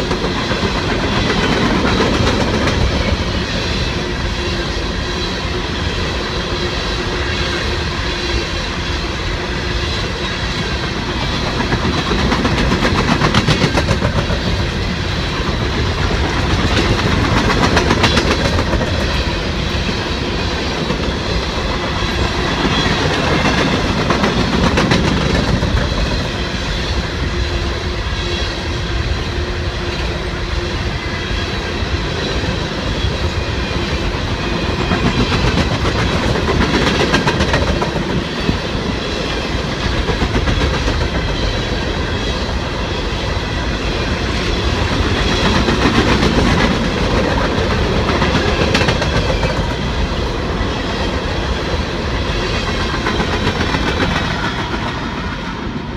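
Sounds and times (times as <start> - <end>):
freight train cars rolling past: 0.0 - 55.9.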